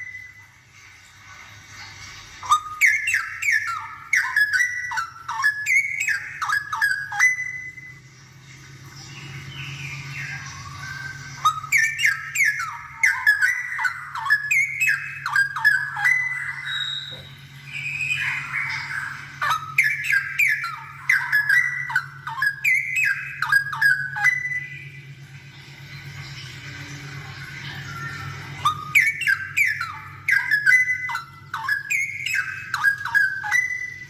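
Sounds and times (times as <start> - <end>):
bird singing whistled notes: 0.0 - 0.6, 2.4 - 8.1, 9.0 - 25.1, 27.6 - 34.0.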